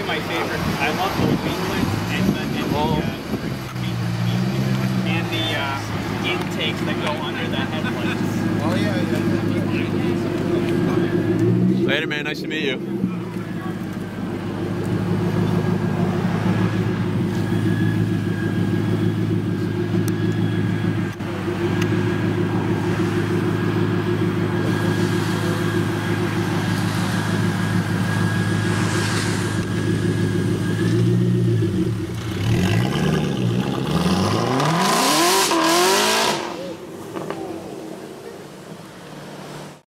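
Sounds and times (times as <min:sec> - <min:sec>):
car engine rumbling and revving: 0:00.0 - 0:39.8.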